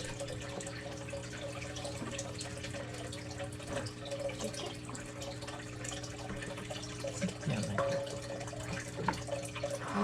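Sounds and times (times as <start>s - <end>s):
low steady hum: 0.0s - 10.0s
water trickling into aquarium: 0.0s - 10.0s.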